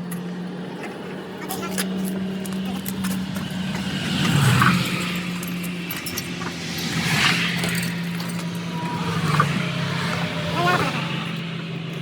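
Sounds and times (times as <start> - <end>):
low engine hum: 0.0 - 12.0
road traffic passing: 0.0 - 12.0.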